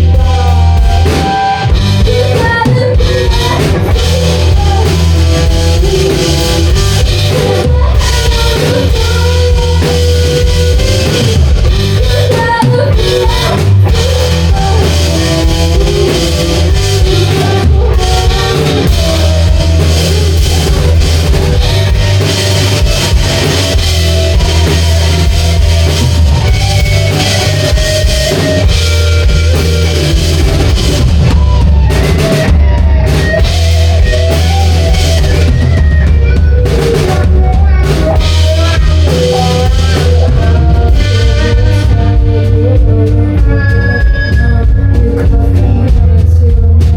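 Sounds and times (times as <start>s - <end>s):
person singing: 0.0s - 46.9s
rock band playing: 0.0s - 46.9s.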